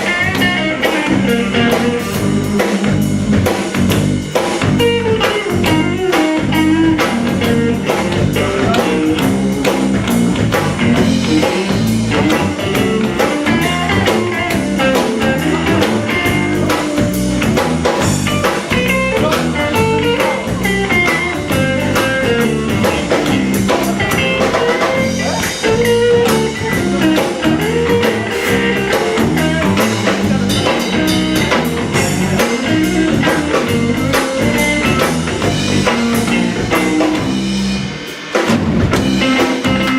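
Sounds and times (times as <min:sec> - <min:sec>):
band playing bluesy rock: 0:00.0 - 0:39.9
drum kit beat: 0:00.0 - 0:39.9
guitar: 0:00.0 - 0:39.9.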